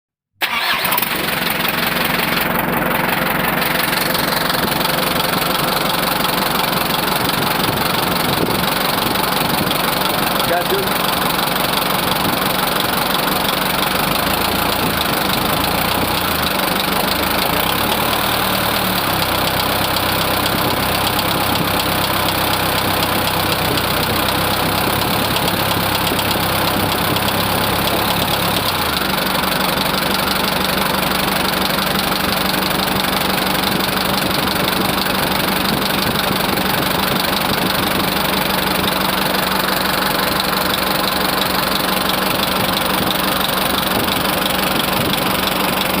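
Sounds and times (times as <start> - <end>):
diesel engine idling: 0.4 - 46.0.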